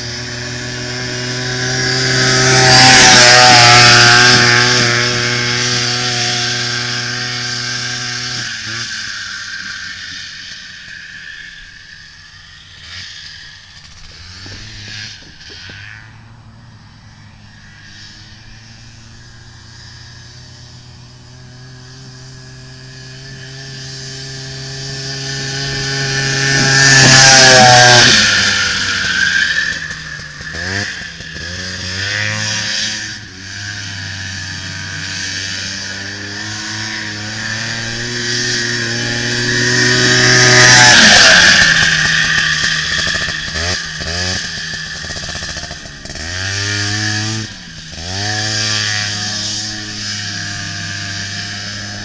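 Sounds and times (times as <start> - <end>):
buggy engine passing by: 0.0 - 52.0.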